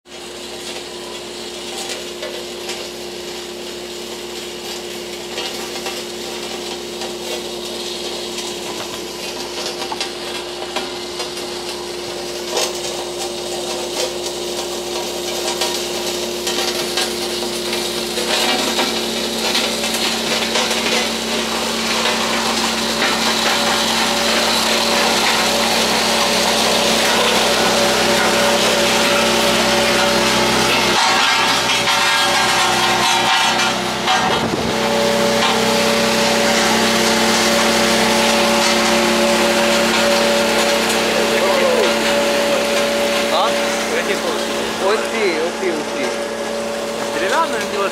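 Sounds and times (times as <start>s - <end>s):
gravel hissing under steel drums: 0.1s - 47.9s
road roller diesel engine: 0.1s - 47.9s.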